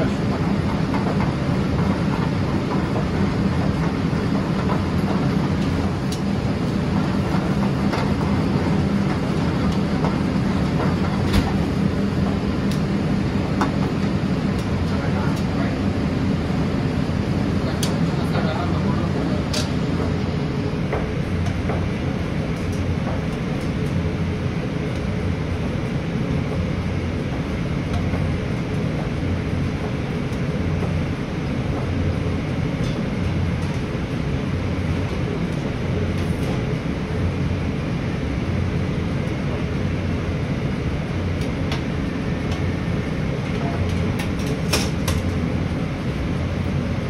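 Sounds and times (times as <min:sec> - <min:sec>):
kitchen ventilation drone: 0:00.0 - 0:47.0.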